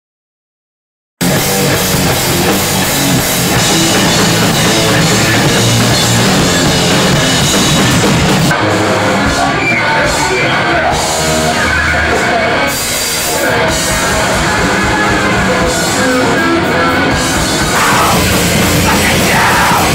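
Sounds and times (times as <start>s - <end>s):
loud drums: 1.2s - 19.9s
punk band playing live: 1.2s - 19.9s.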